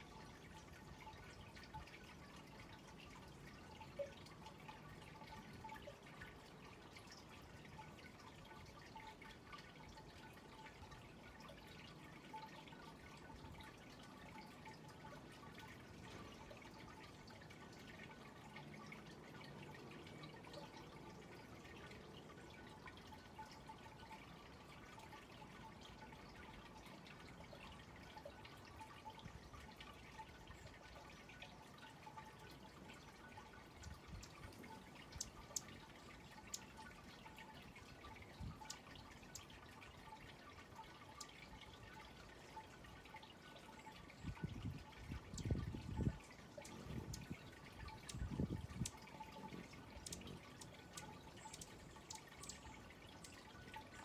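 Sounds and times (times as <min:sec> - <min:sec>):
soft scattered ticks: 0:00.0 - 0:54.0.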